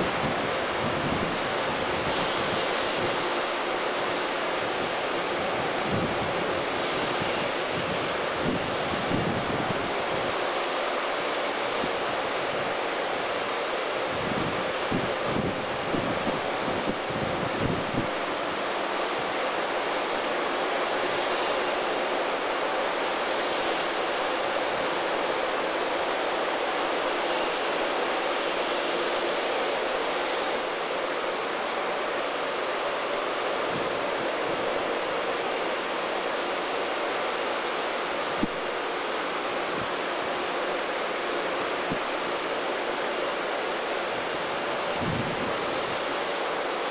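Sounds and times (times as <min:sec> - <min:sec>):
steady mechanical roar: 0:00.0 - 0:46.9.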